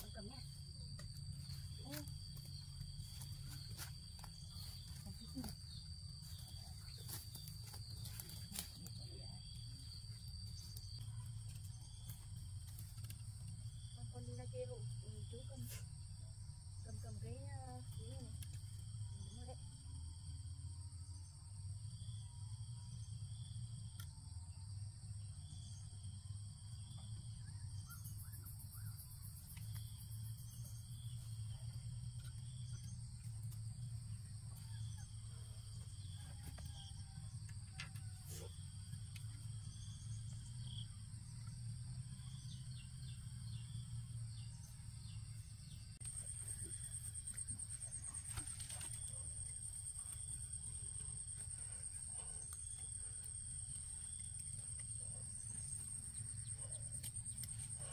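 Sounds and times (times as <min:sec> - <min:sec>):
high insect chirp: 0:00.0 - 0:57.9
insects droning: 0:00.0 - 0:57.9
pulsing insect trill: 0:00.0 - 0:57.9.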